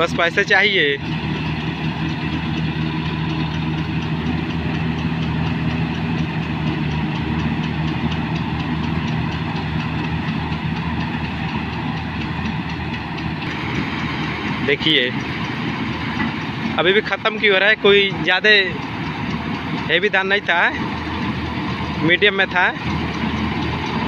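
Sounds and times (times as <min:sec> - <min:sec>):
combine harvester drone: 0:00.0 - 0:24.0
faint regular ticking: 0:00.0 - 0:24.0.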